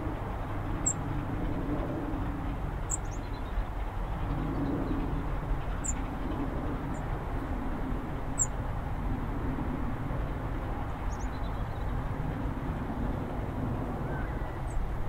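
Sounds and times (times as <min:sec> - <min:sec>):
distant locomotive rumble: 0:00.0 - 0:15.0.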